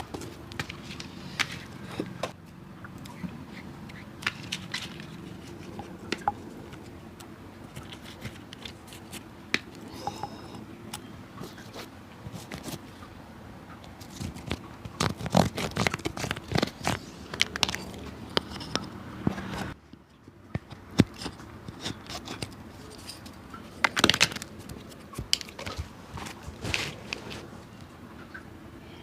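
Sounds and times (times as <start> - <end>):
scraping and crackling on leather shoe: 0.0 - 2.4, 3.1 - 7.0, 7.6 - 10.5, 11.4 - 12.9, 14.0 - 27.7.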